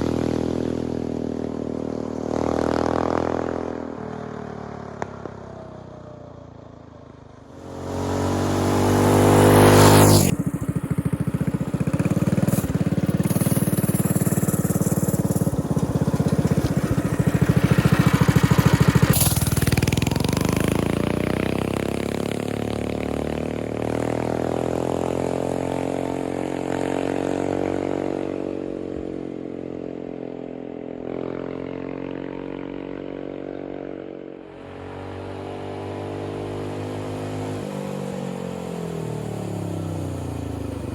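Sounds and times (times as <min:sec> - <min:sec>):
mini bike engine revving: 0:00.0 - 0:05.3, 0:07.5 - 0:40.9.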